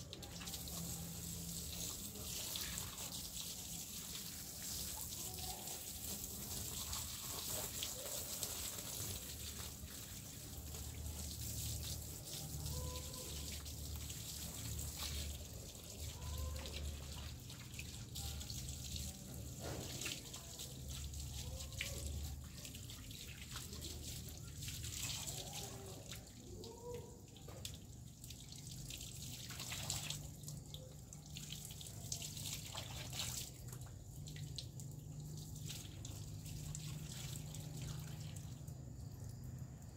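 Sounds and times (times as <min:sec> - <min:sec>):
water drips: 0:00.0 - 0:39.9
water trickling and splashing: 0:00.0 - 0:39.9.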